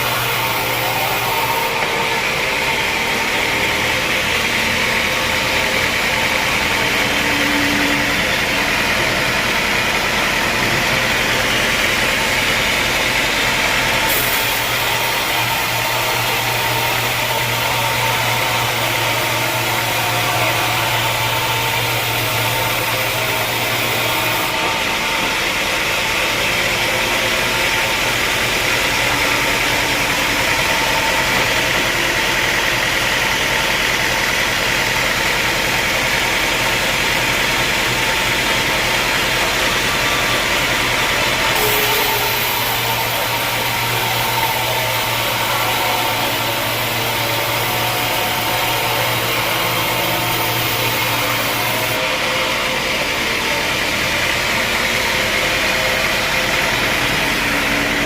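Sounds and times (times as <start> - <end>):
loud machinery hiss: 0.0 - 58.0
motor humming: 0.0 - 58.0.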